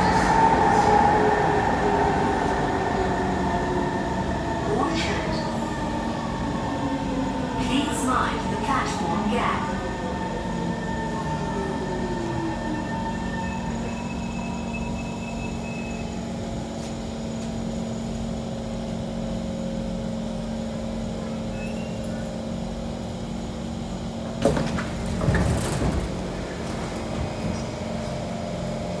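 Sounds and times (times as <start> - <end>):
train equipment humming: 0.0 - 29.0.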